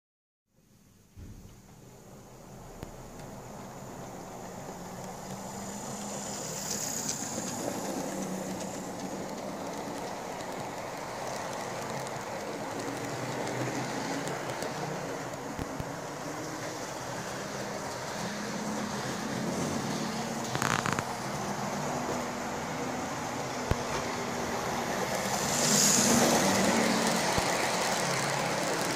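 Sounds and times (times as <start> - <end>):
wheels rattling on rails: 2.1 - 28.9
model train motor whirring: 4.0 - 22.0, 23.4 - 28.9.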